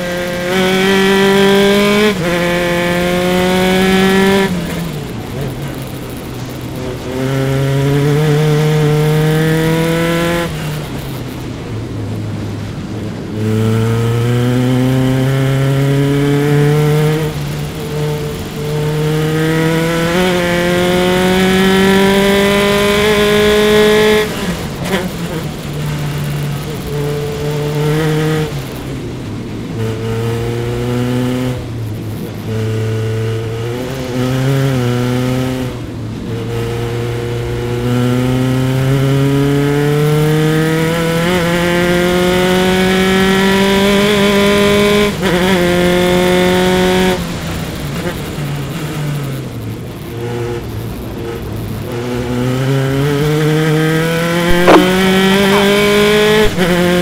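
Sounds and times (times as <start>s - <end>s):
race car engine revving: 0.0s - 11.2s, 13.4s - 28.8s, 36.4s - 57.0s.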